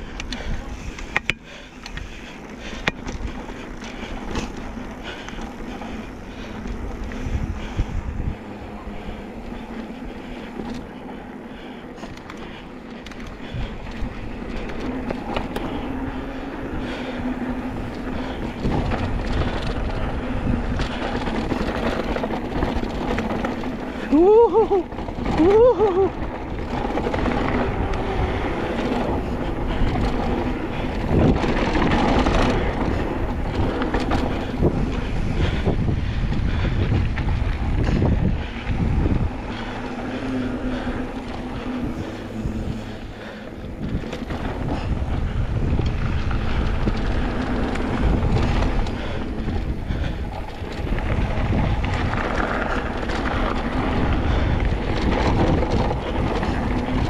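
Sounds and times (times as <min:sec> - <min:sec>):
steady low rumble: 0:00.0 - 0:57.0
wind buffeting microphone: 0:00.0 - 0:57.0.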